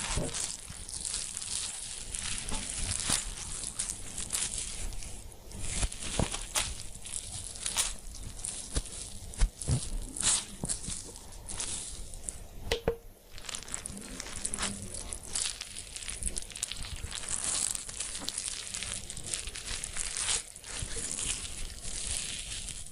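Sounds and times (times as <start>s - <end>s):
meat grinder crunching: 0.0s - 11.8s, 13.4s - 22.9s.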